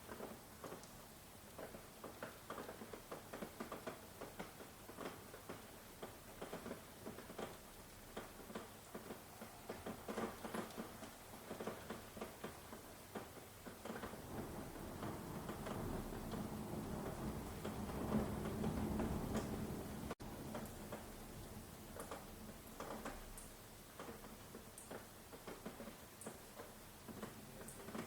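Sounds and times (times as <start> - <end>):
raindrops pattering close by: 0.0 - 28.0.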